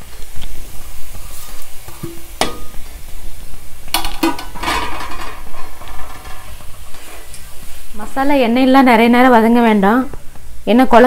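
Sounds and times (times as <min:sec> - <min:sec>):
food sizzling in oil: 0:00.0 - 0:10.9.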